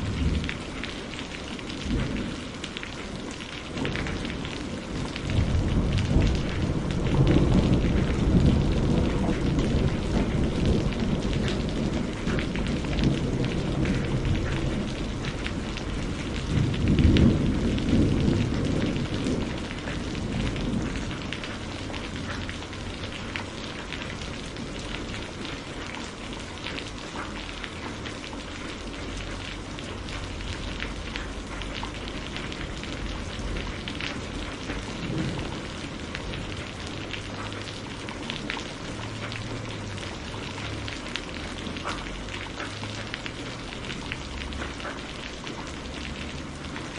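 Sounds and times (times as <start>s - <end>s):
low rolling thunder: 0.0s - 26.3s, 27.5s - 42.2s
steady rain falling: 0.0s - 46.9s.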